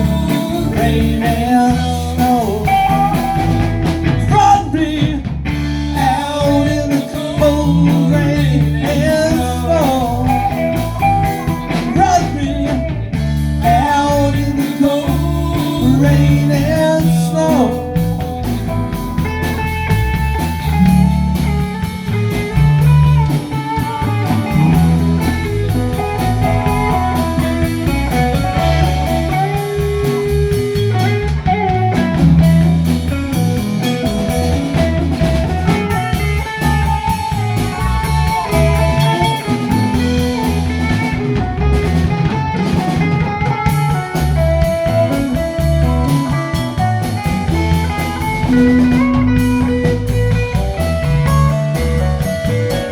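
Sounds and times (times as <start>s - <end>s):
bass guitar: 0.0s - 52.9s
drum kit steady beat: 0.0s - 52.9s
electric guitar lead melody: 0.0s - 52.9s.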